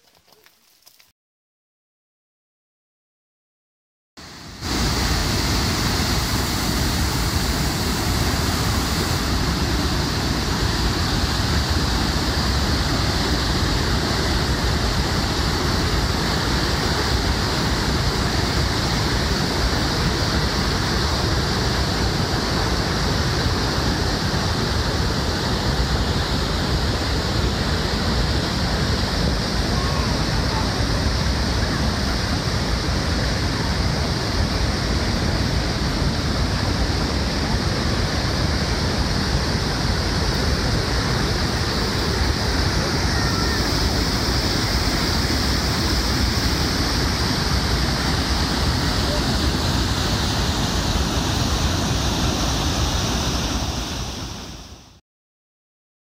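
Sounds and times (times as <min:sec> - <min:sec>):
waterfall rushing: 0:04.2 - 0:55.0.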